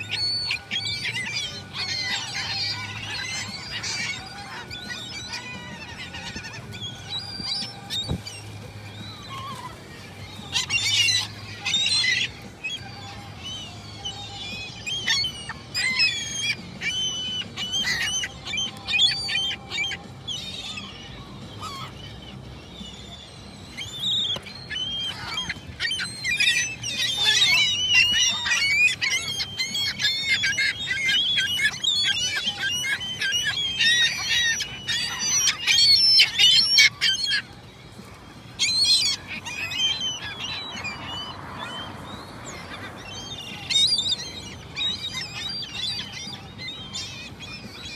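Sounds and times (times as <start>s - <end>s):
gulls calling: 0.0s - 47.9s.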